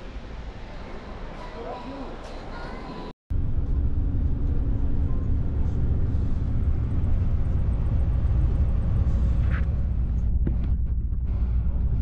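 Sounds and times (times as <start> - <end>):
coach engine and tyres rumbling: 0.0 - 11.9.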